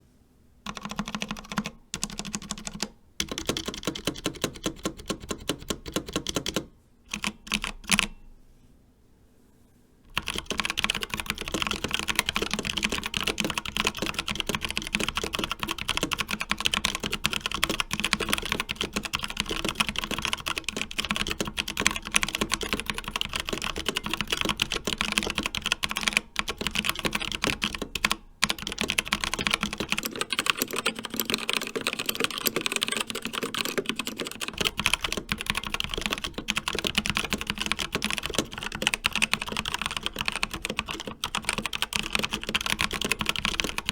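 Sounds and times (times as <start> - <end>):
fast mechanical keyboard typing: 0.7 - 8.2, 10.1 - 43.9.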